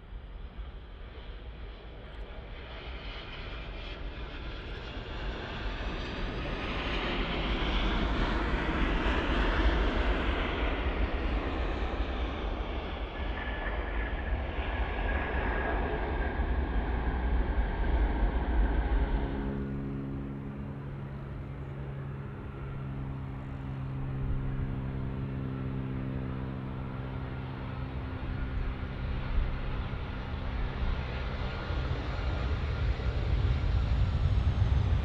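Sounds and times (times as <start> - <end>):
jet engines of landing airliner: 0.0 - 35.0
steady engine whine: 0.0 - 35.0.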